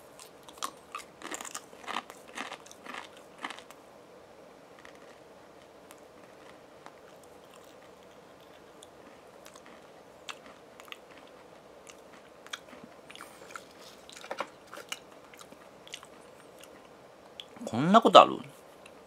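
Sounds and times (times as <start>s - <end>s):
crunching potato crisps: 0.2s - 3.8s, 4.8s - 16.9s.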